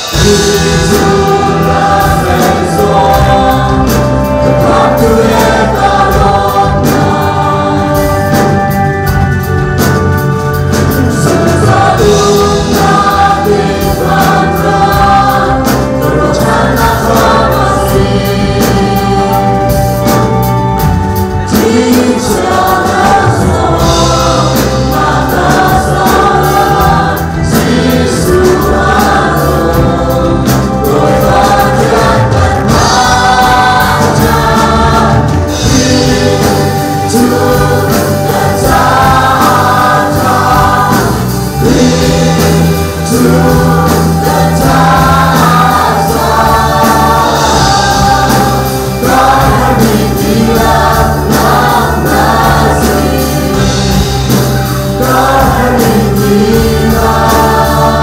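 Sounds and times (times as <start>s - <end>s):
congregation singing along: 0.0s - 58.0s
gospel band playing: 0.0s - 58.0s
group of singers: 0.0s - 58.0s.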